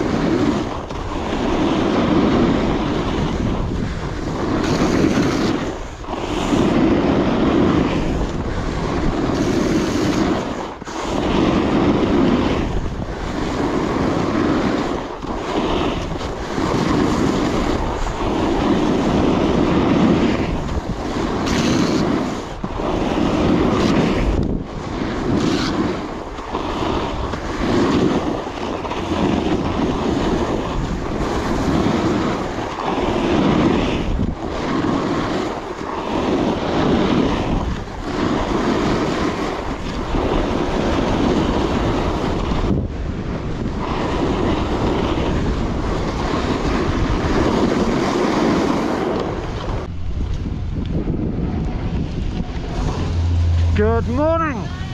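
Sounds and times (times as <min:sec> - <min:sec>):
snowboard edge scraping snow: 0:00.0 - 0:54.9
wind on microphone: 0:00.0 - 0:54.9.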